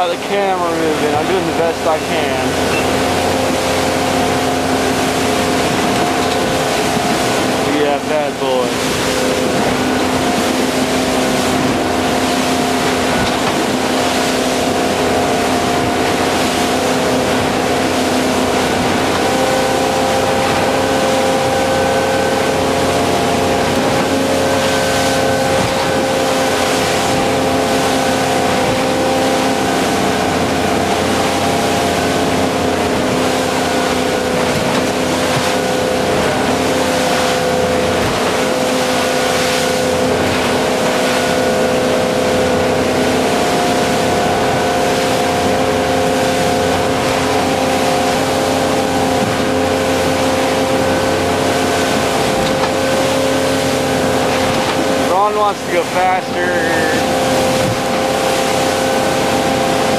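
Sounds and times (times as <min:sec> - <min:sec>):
boat engine drone: 0:00.0 - 0:59.9
rushing water: 0:00.0 - 0:59.9
wind: 0:00.0 - 0:59.9.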